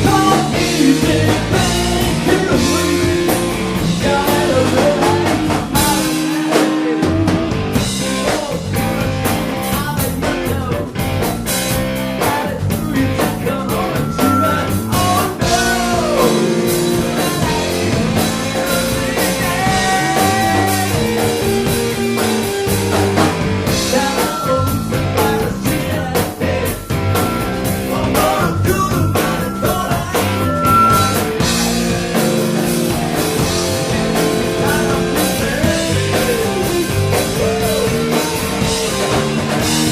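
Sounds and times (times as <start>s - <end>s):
person singing: 0.0s - 10.9s, 12.2s - 22.4s, 23.7s - 32.3s, 33.7s - 39.4s
drums: 0.0s - 39.9s
guitar: 0.0s - 39.9s.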